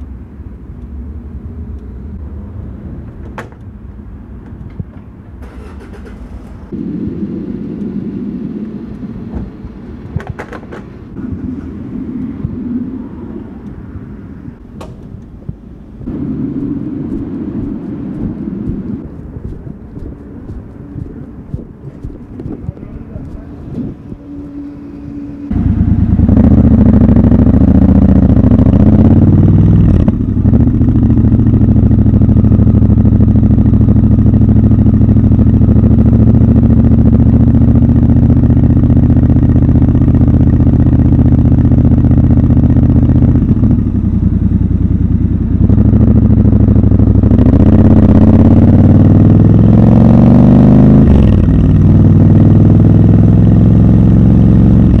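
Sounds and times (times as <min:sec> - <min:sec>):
motorcycle engine starting and revving: 0:00.8 - 0:55.0.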